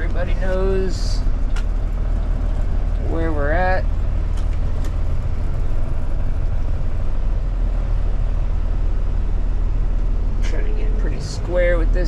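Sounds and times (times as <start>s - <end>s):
tow truck engine droning: 0.0s - 12.0s.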